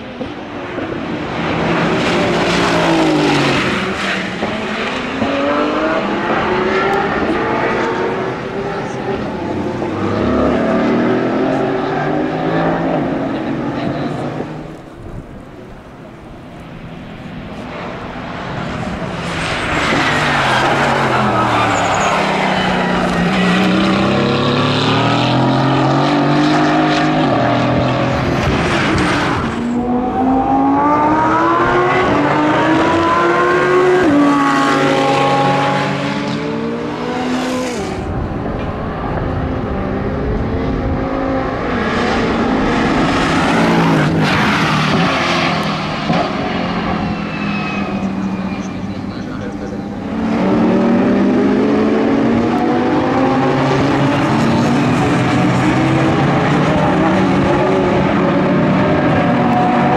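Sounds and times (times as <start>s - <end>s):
race car engines passing by: 0.0s - 59.9s.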